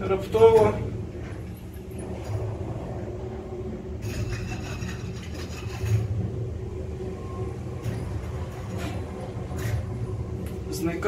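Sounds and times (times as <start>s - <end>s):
lift travelling rumble: 0.0s - 11.0s.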